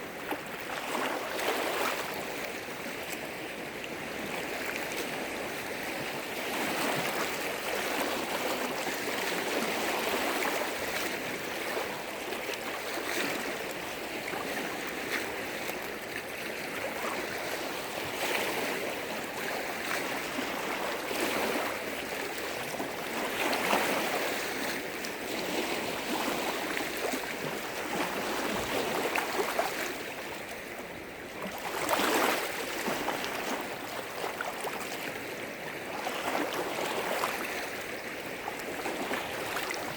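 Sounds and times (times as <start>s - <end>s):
waves washing against shore: 0.0s - 39.9s.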